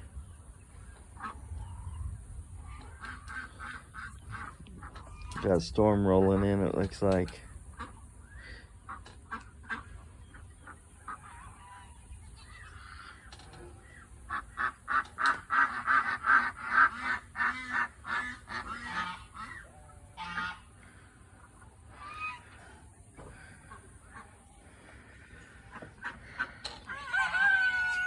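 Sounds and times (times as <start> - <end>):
domestic waterfowl calling: 0.8 - 6.8, 7.4 - 28.0.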